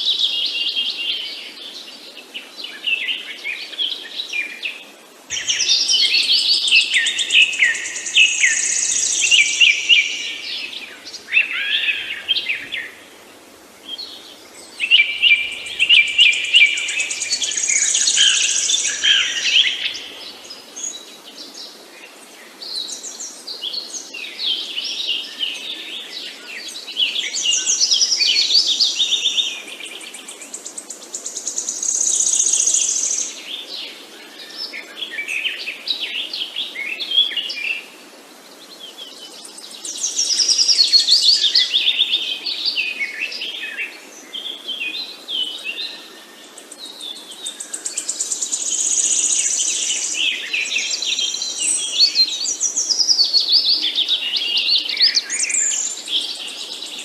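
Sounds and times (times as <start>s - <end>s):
small birds chirping and singing: 0.0s - 37.9s, 38.5s - 57.0s.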